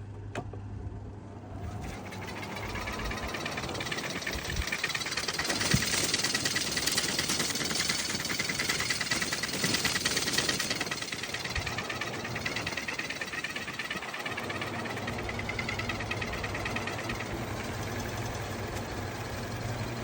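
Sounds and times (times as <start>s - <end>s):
electric fan rattling and whining: 0.0s - 20.0s.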